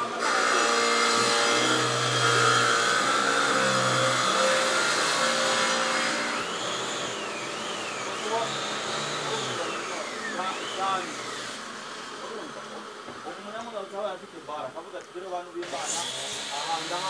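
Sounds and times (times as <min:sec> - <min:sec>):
machine whir: 0:00.0 - 0:13.9, 0:15.6 - 0:17.0.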